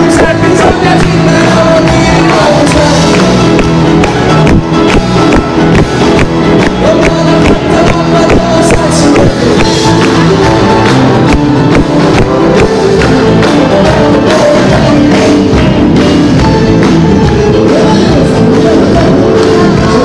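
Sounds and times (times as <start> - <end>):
drums: 0.0 - 20.0
electric guitar: 0.0 - 20.0
piano: 0.0 - 20.0.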